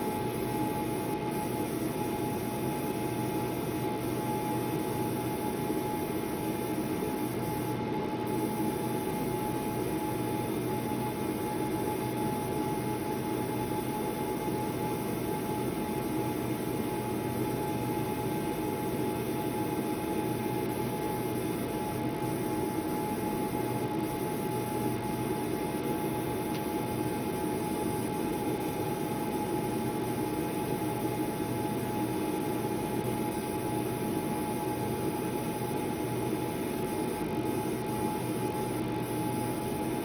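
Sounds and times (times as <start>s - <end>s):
laser marking machine humming: 0.0s - 40.0s.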